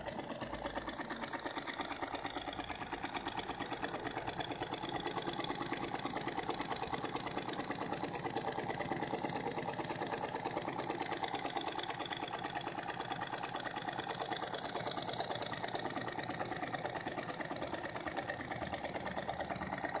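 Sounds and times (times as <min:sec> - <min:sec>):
steam engine chuffing: 0:00.0 - 0:20.0.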